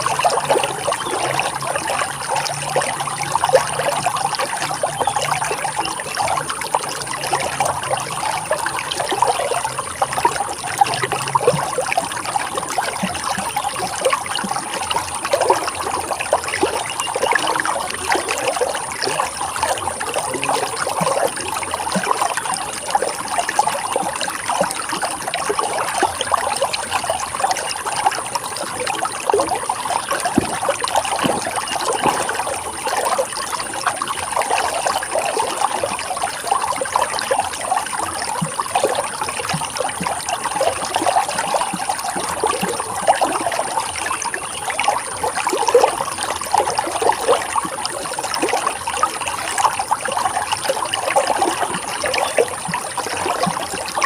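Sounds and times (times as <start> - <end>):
running water rushing and trickling: 0.0 - 54.0.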